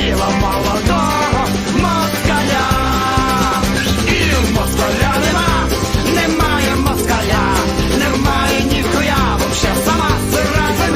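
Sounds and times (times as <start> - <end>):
rock music with singing: 0.0 - 10.9.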